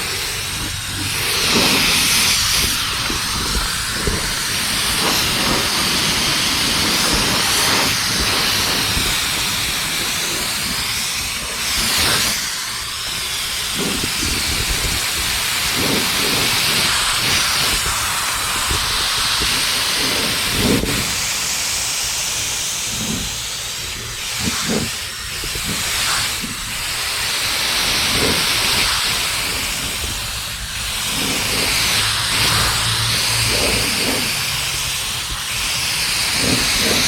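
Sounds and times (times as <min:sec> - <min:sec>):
spray paint hissing: 0:00.0 - 0:37.0.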